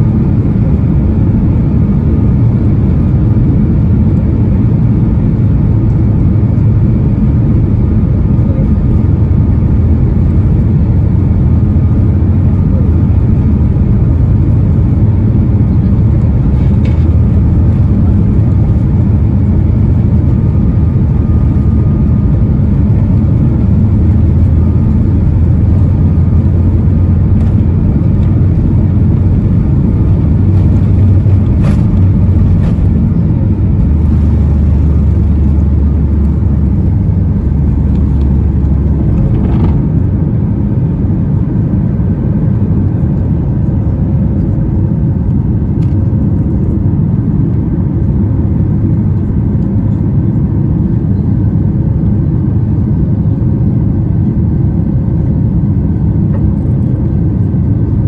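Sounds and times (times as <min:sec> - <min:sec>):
jet engine rumble inside cabin: 0:00.0 - 0:58.0.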